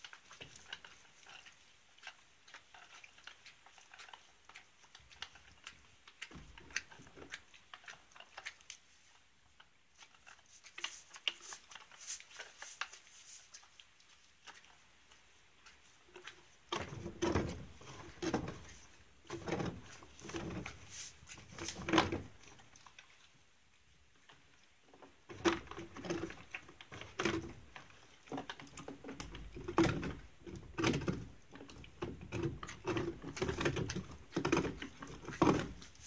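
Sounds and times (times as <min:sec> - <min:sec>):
pony licking with small clicks: 0:00.0 - 0:36.0.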